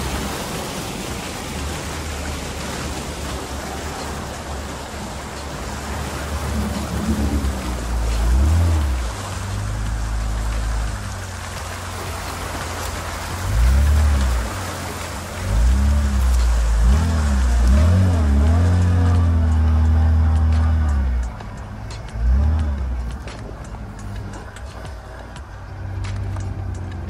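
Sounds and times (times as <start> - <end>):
water rushing and splashing: 0.0 - 27.0.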